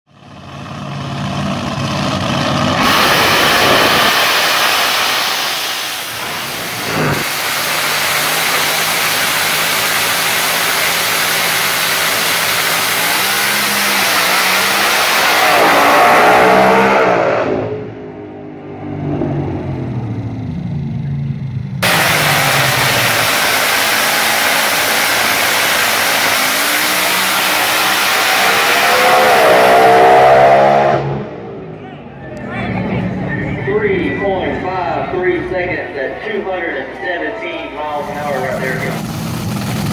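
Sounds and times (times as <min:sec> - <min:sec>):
race engine running loud: 0:00.1 - 0:36.0, 0:37.6 - 0:39.9.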